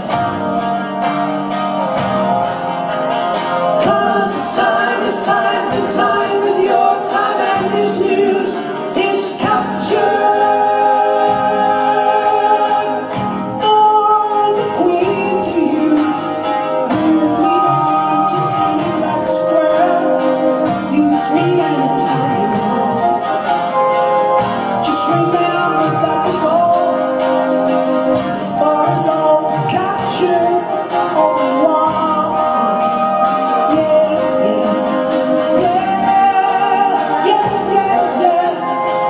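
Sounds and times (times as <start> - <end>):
rock band playing live: 0.0 - 39.0
sung vocal harmonies: 3.4 - 39.0.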